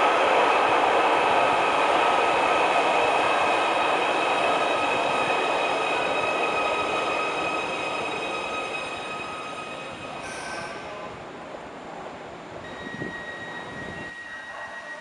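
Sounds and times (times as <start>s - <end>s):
electric train running noise: 0.0s - 11.1s, 12.6s - 15.0s
train high whine: 0.0s - 15.0s.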